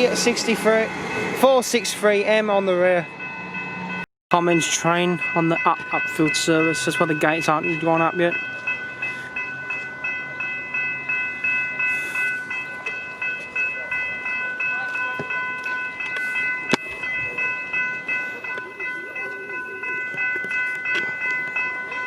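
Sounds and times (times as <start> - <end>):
level crossing bells ringing: 0.0 - 22.0.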